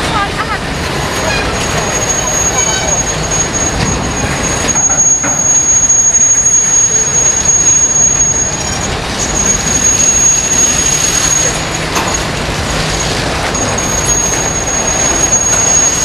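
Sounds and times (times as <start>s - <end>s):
train rumbling by: 0.0s - 16.0s
high-pitched wheel squeal: 0.7s - 16.0s.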